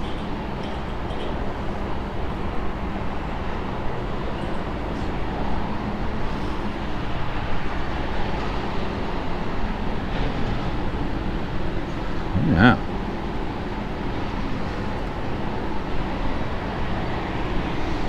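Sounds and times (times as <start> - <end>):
urban background rumble: 0.0 - 18.0.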